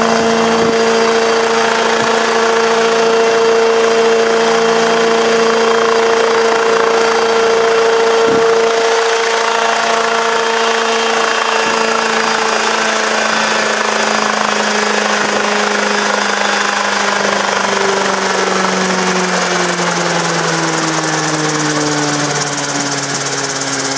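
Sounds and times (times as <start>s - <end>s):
helicopter engine and rotors: 0.0s - 23.9s.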